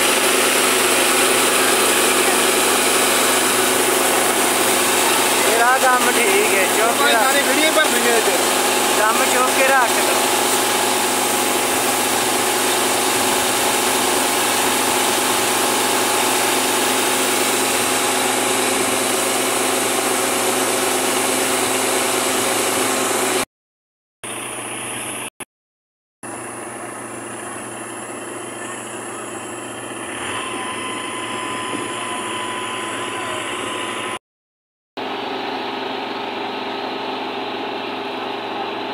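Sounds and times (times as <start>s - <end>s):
combine harvesters running: 0.0s - 23.4s, 26.3s - 34.2s.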